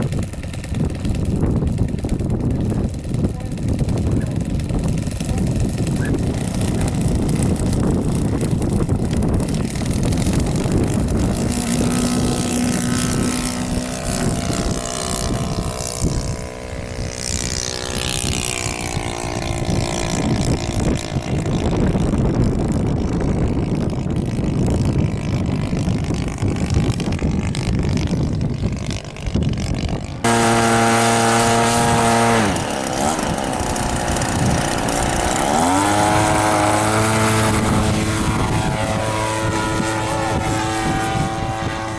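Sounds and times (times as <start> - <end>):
model airplane engine flying past: 0.0 - 41.9.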